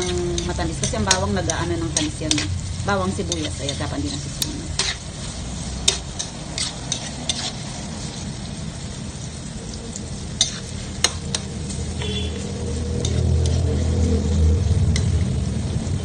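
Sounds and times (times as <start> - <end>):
metal ladle scraping wok: 0.0 - 9.4, 10.1 - 15.5
vegetables sizzling in hot oil: 0.0 - 16.0.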